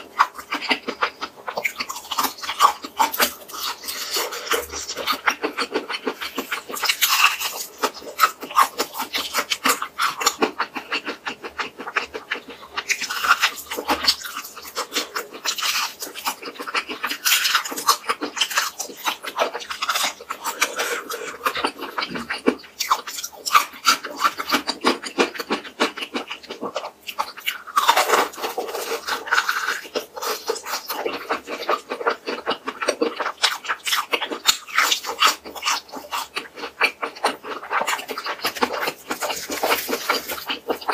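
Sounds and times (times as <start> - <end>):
crispy chicken crunching: 0.0 - 40.9
wet mouth sounds: 0.0 - 40.9.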